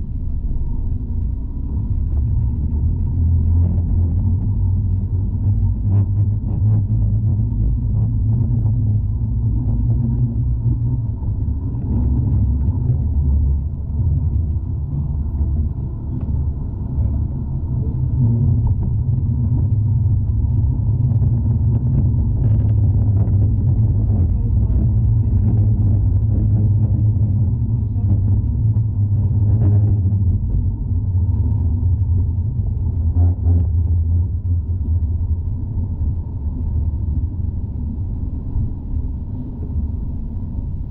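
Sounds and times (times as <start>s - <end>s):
faint clicks and rattles: 0.0s - 40.9s
tram rumbling on rails: 0.0s - 40.9s.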